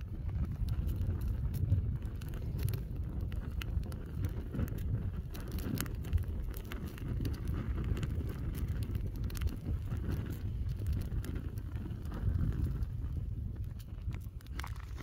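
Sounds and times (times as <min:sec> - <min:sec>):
fire crackling and snapping: 0:00.0 - 0:15.0
fire rumbling: 0:00.0 - 0:15.0.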